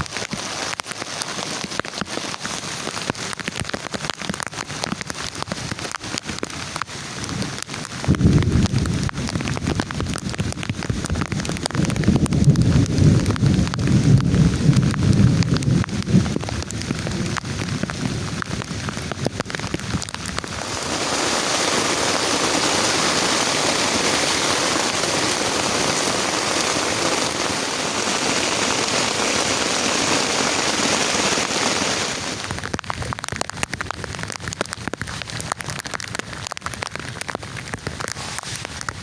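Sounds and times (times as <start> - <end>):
heavy rain pattering: 0.0 - 39.0.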